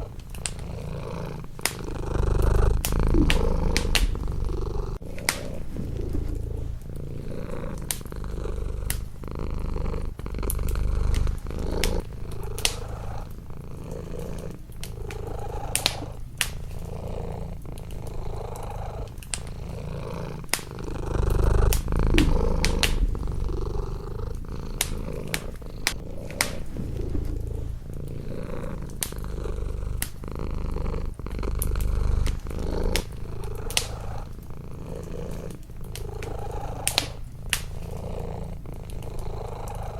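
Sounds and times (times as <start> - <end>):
wood fire crackling: 0.0 - 39.7
cat purring: 0.0 - 39.9.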